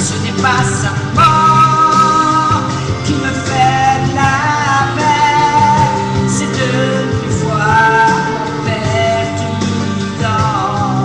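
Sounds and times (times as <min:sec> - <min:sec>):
instrumental accompaniment: 0:00.0 - 0:11.0
woman singing pop ballad: 0:00.0 - 0:11.0.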